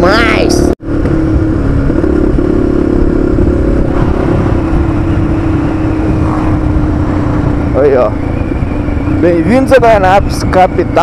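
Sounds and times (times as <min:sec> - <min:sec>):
motorcycle engine cruising: 0:00.0 - 0:11.0
wind noise rumble: 0:00.0 - 0:11.0.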